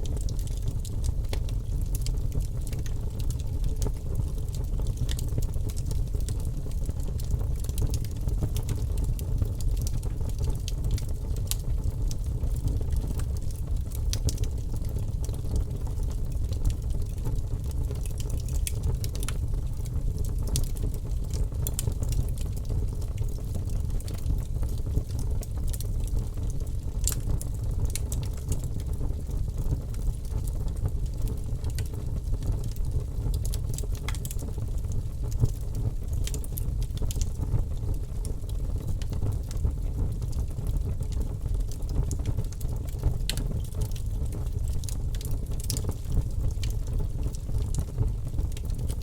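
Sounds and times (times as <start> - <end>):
fire crackling and popping: 0.0 - 49.0
fire rumbling: 0.0 - 49.0.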